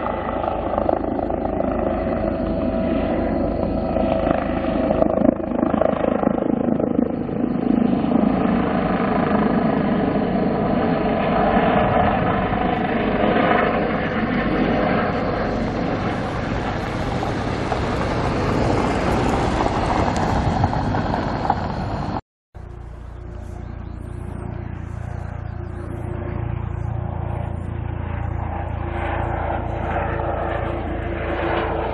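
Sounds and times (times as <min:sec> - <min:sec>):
helicopter running: 0:00.0 - 0:31.9
high turbine whine: 0:00.0 - 0:31.9.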